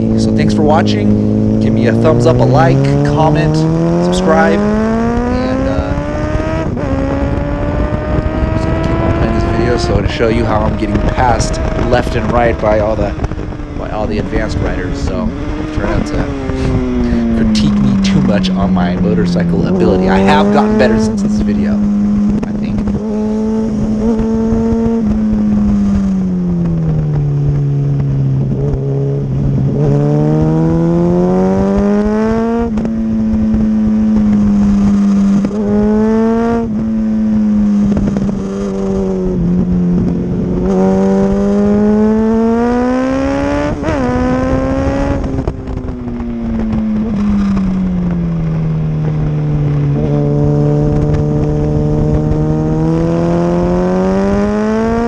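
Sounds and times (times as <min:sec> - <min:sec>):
motorcycle engine revving: 0:00.0 - 0:55.0
wind rush: 0:00.0 - 0:55.0.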